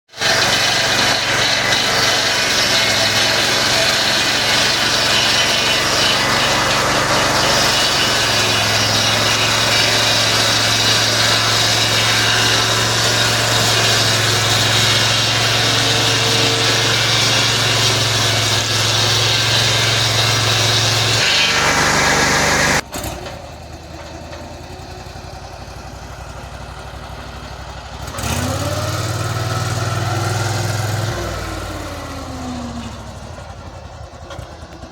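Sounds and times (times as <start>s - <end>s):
saw blade whine: 0.1s - 22.8s, 25.1s - 34.9s
sawmill engine running: 0.1s - 34.9s.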